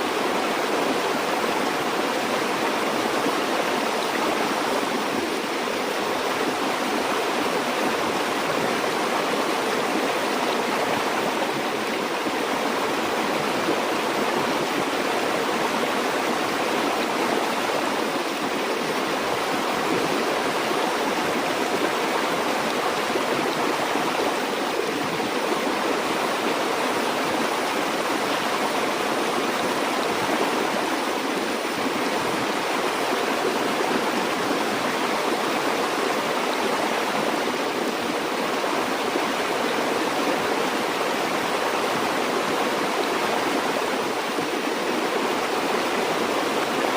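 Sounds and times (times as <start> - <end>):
stream flowing: 0.0 - 46.9.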